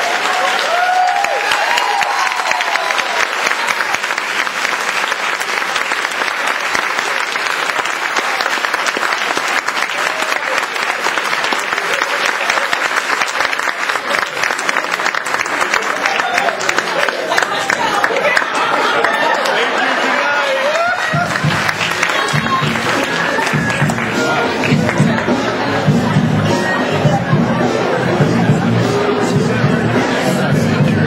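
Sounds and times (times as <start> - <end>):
large audience applauding: 0.0 - 26.2
voices cheering: 0.0 - 31.0.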